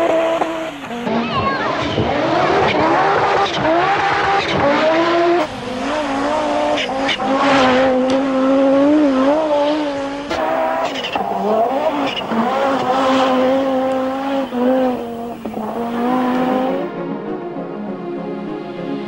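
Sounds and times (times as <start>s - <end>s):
rally car engine revving: 0.0s - 16.9s.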